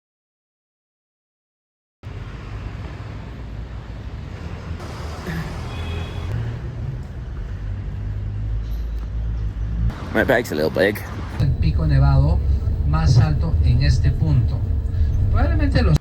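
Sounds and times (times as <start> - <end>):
vehicle rumble and road noise: 2.0 - 16.0.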